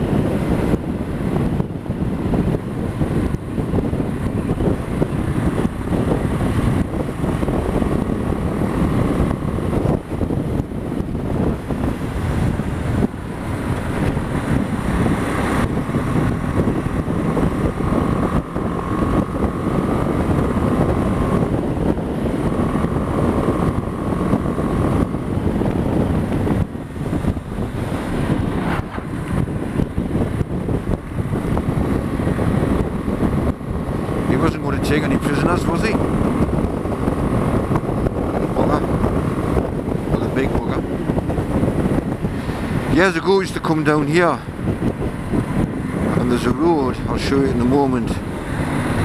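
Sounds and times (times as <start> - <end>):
motorcycle engine running: 0.0 - 49.0
wind rush on microphone: 0.0 - 49.0.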